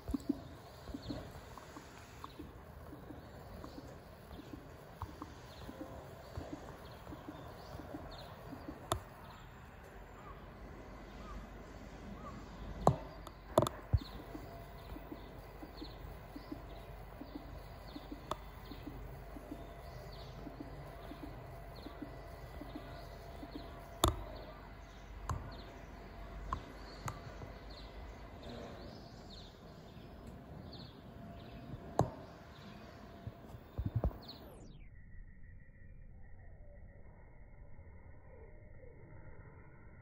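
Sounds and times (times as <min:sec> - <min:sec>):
small birds chirping: 0:00.0 - 0:34.9
low background noise: 0:00.0 - 0:35.1.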